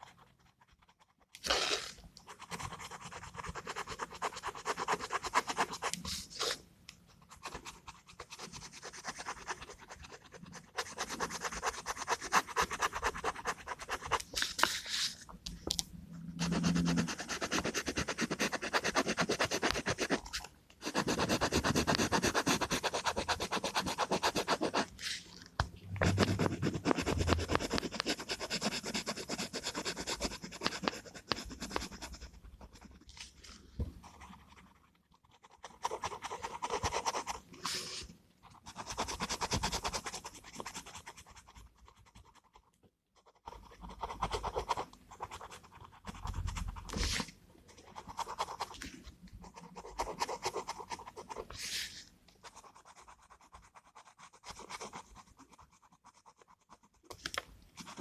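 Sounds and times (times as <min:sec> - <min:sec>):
pen scratching across paper: 0:00.0 - 0:06.6, 0:07.2 - 0:15.3, 0:16.3 - 0:25.3, 0:25.9 - 0:57.2, 0:57.8 - 0:58.0.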